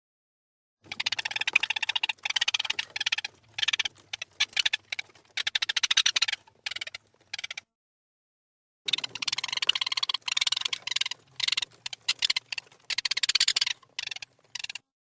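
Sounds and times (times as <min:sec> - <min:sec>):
rat chirping: 0:00.8 - 0:07.7, 0:08.9 - 0:14.9.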